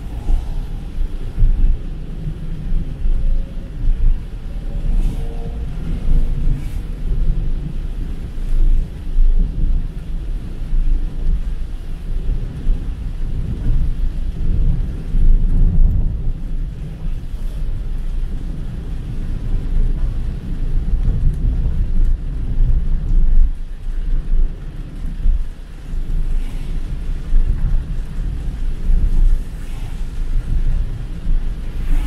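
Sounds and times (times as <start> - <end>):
rain on car body: 0.0 - 32.0
tyres on wet road: 0.0 - 32.0.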